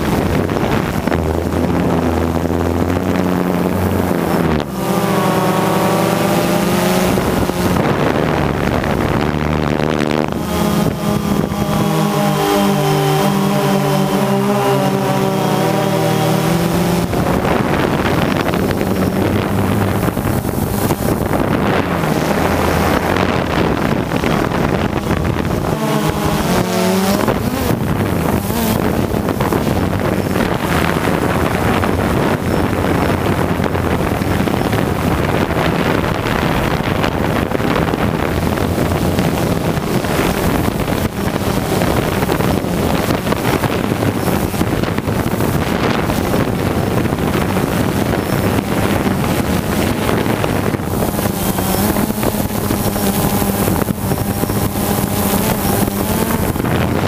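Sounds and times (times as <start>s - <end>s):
droning motor tone: 0.0s - 57.0s
wind rushing on microphone: 0.0s - 57.0s.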